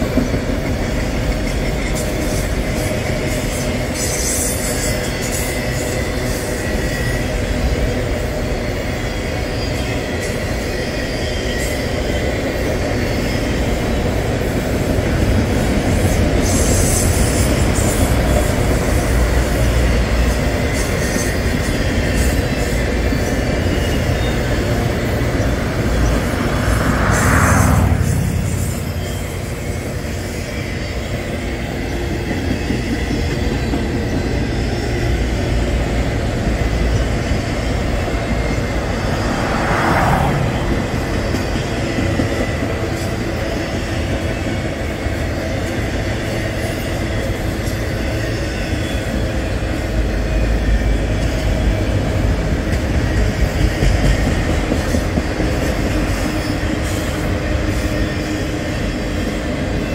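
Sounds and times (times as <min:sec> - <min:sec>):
freight cars rumbling on rails: 0:00.0 - 0:59.9
louder higher train noise: 0:00.0 - 0:59.9.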